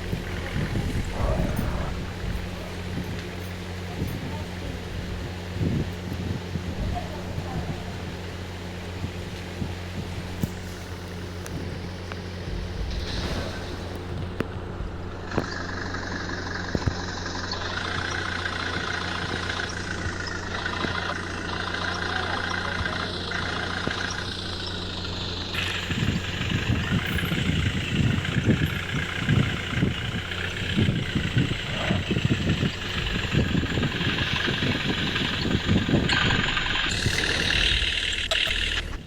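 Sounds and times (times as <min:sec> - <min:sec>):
low thumps and rumbles: 0:00.0 - 0:39.0
truck engine running: 0:00.0 - 0:39.0.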